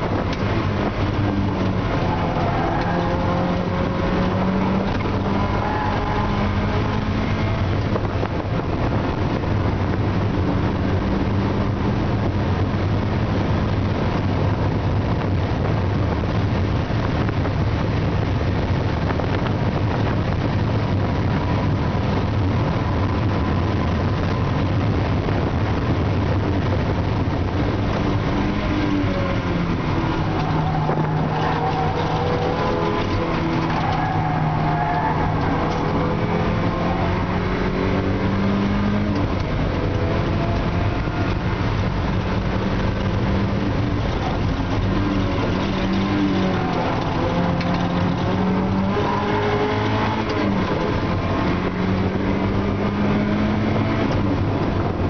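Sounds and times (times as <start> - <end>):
car engine running hard: 0.0 - 55.0
steady rush of noise: 0.0 - 55.0.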